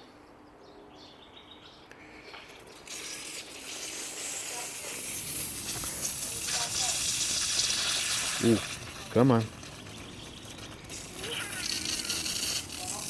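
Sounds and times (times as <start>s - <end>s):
sprinkler hissing: 2.5s - 13.0s.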